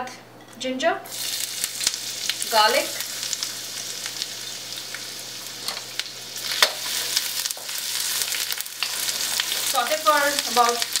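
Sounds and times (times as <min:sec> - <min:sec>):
garlic sizzling in hot oil: 0:01.1 - 0:11.0.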